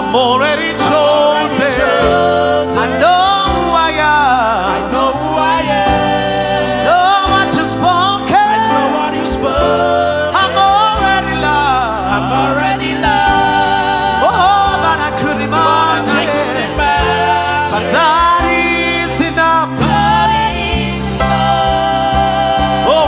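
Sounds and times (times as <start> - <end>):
held instrumental chords: 0.0 - 23.0
person singing: 0.0 - 23.0.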